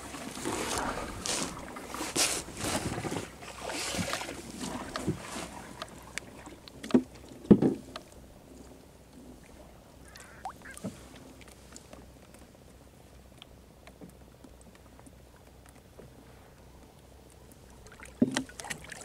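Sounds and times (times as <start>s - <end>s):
water sloshing against boat: 0.0s - 19.0s.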